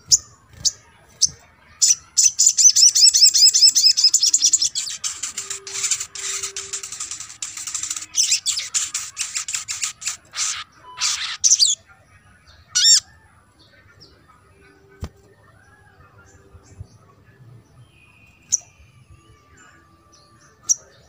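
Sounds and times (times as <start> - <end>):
bird singing high chirps: 0.0 - 14.2, 14.8 - 21.0.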